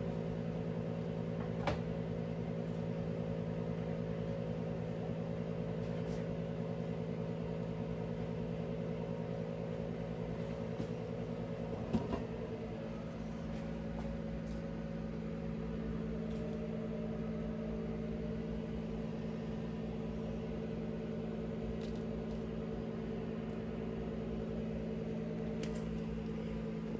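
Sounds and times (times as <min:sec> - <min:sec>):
appliance motor humming: 0:00.0 - 0:26.9.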